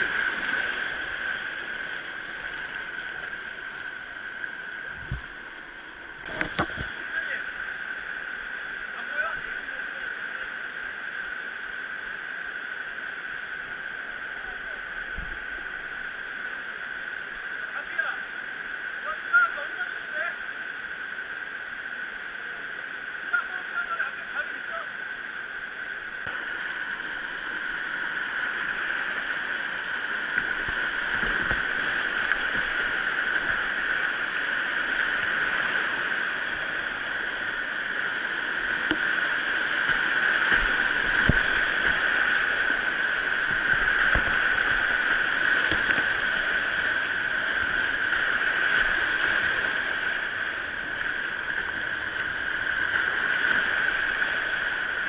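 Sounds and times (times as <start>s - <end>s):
stream rushing over rapids: 0.0s - 55.0s.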